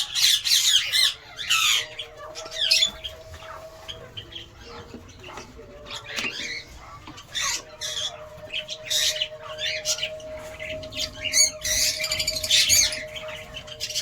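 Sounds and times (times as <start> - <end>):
lovebirds chirping and squawking: 0.0 - 14.0
steady hum: 1.8 - 14.0.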